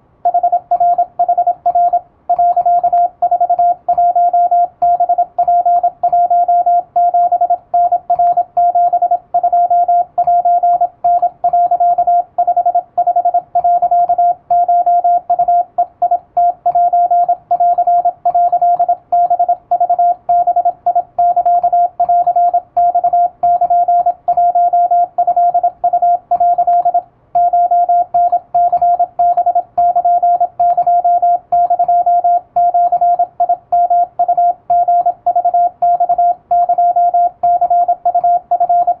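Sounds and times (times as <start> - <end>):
morse code tone: 0.2 - 39.0.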